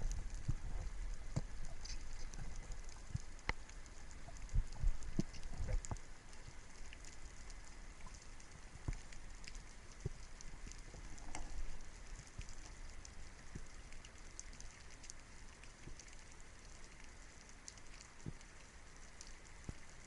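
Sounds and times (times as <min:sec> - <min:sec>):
underwater crackle of clicks: 0:00.0 - 0:20.0.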